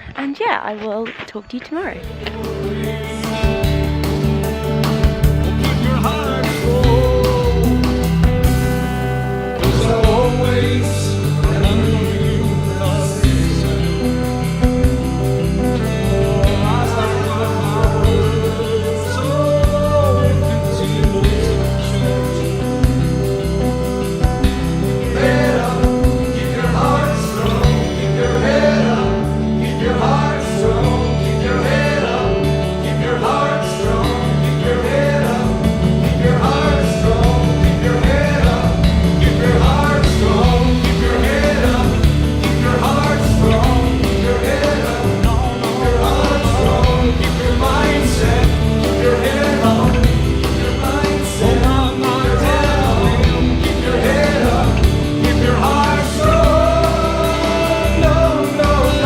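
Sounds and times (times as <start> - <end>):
song with band and vocals: 2.0 - 59.0.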